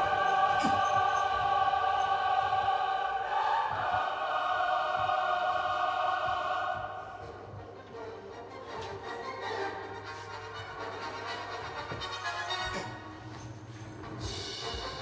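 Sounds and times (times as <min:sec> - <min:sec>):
choir holding long chords: 0:00.0 - 0:13.0
quiet background music: 0:00.0 - 0:15.0.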